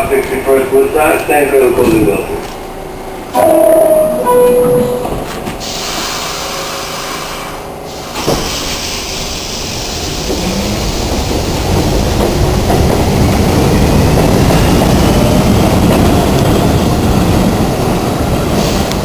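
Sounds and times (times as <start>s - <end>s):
subway wheels clattering on rails: 0.0s - 2.7s, 3.3s - 19.0s.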